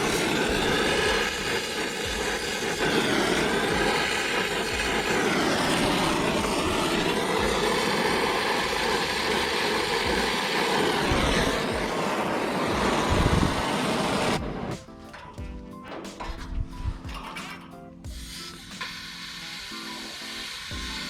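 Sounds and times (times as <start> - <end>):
torch flame rushing: 0.0 - 15.0, 18.1 - 21.0.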